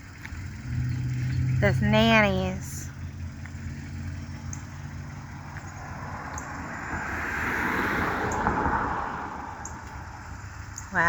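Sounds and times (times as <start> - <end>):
car engine rumble from inside: 0.0 - 11.0
road noise hiss: 0.0 - 11.0.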